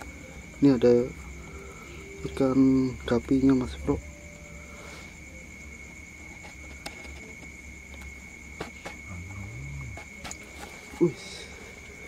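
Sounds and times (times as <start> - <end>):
crickets chirping: 0.0 - 12.0
low background hum: 0.0 - 12.0.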